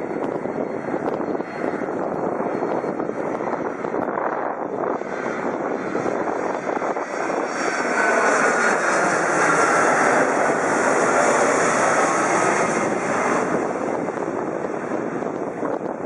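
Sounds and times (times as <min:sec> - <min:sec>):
jet airliner engine rushing: 0:00.0 - 0:16.0.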